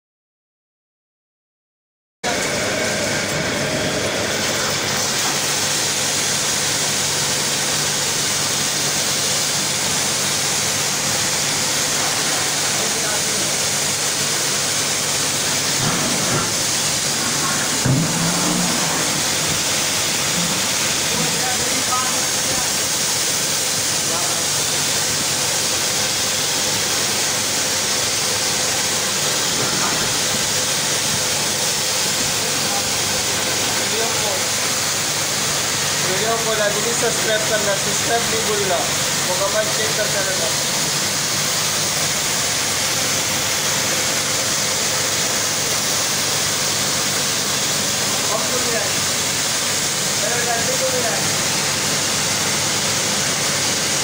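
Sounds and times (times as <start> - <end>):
pump humming: 2.3 - 54.0
water spray hissing: 4.2 - 54.0.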